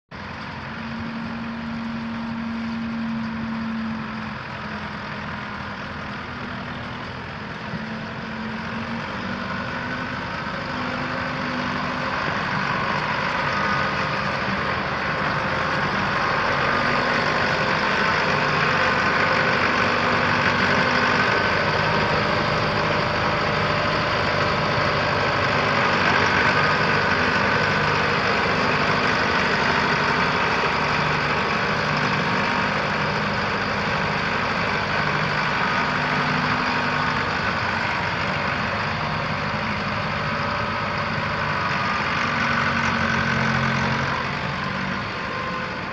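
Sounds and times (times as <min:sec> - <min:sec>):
tractor diesel engine running: 0:00.1 - 0:45.9.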